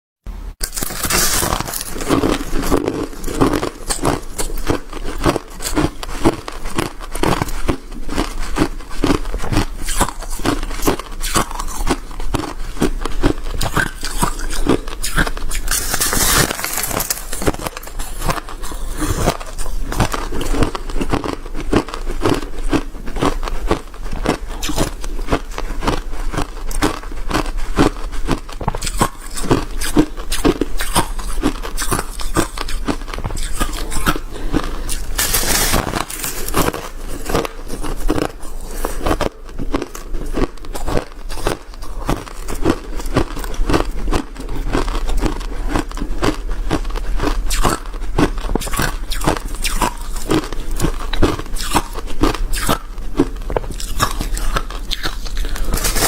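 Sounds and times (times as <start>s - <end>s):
ice being chewed: 0.6s - 56.0s.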